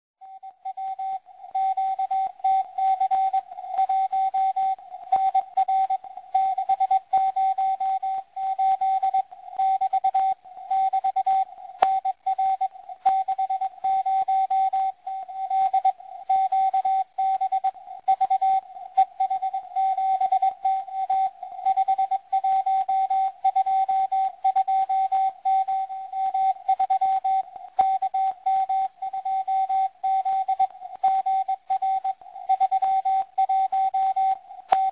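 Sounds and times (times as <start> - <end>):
morse code tone: 0.2 - 15.9, 16.6 - 34.9.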